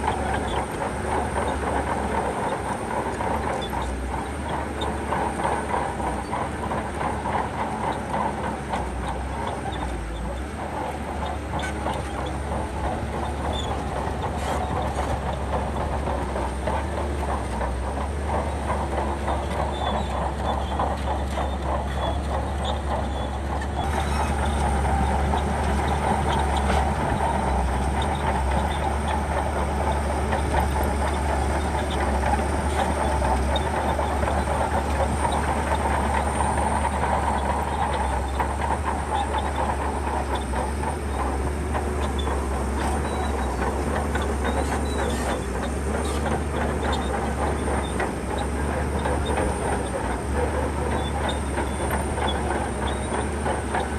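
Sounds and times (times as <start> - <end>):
diesel engine drone: 0.0 - 53.9
steel tracks clanking: 0.0 - 53.9.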